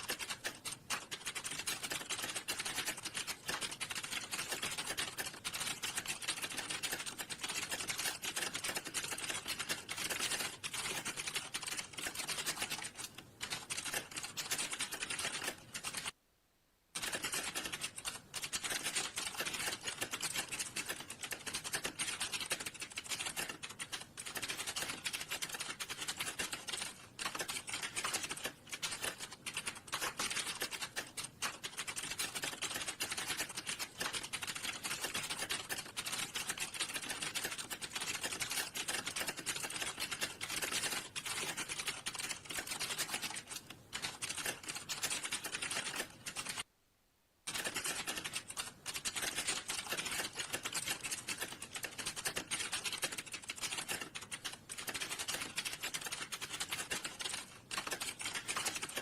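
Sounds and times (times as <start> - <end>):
fast keyboard typing: 0.0 - 16.2, 17.0 - 46.7, 47.5 - 59.0.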